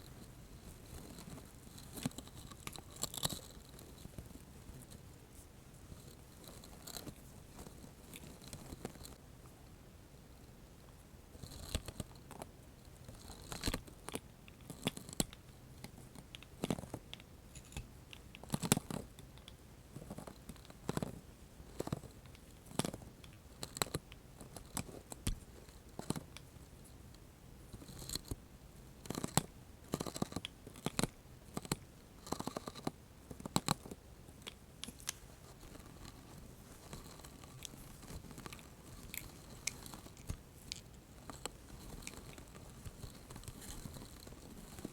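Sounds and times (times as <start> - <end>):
crisp crackles and sticky clicks: 0.0 - 9.6, 11.4 - 28.4, 29.0 - 44.9.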